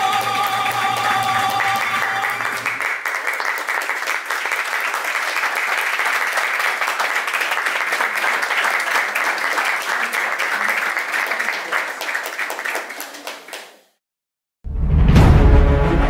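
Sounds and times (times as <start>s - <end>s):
audience applause: 0.0s - 14.0s.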